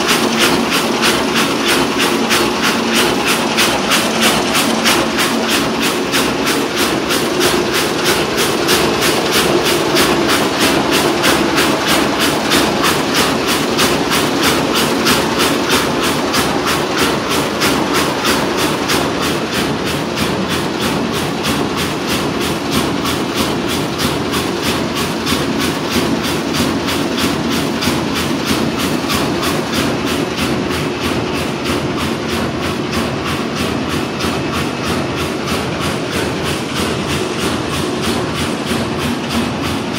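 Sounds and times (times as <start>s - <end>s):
weaving loom clattering: 0.0s - 39.9s.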